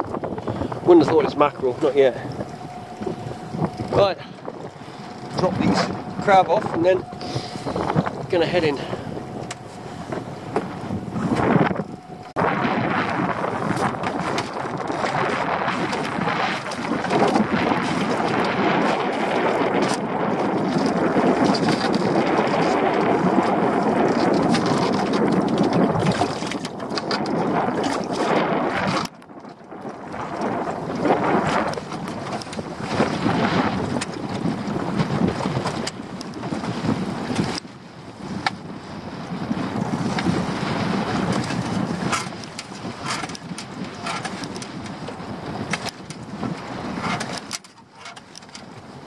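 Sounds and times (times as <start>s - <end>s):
dinghy knocking against boat: 0.0s - 12.4s, 13.1s - 37.6s, 39.7s - 48.7s
choppy water: 0.0s - 49.0s
wind buffeting microphone: 0.0s - 49.0s.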